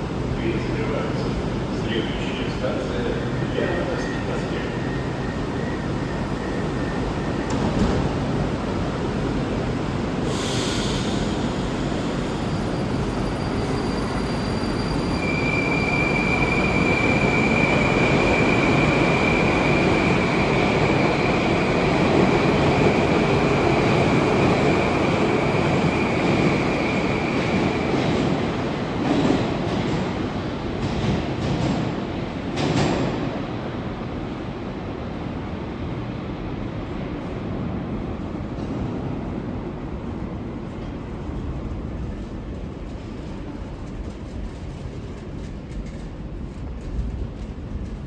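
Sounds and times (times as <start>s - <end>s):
metro train rumble: 0.0s - 48.0s.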